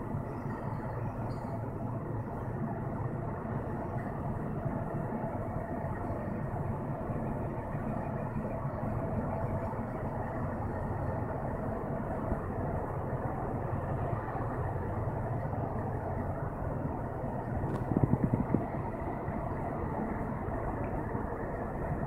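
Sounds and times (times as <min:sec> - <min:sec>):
ship diesel engine rumble: 0:00.0 - 0:22.0.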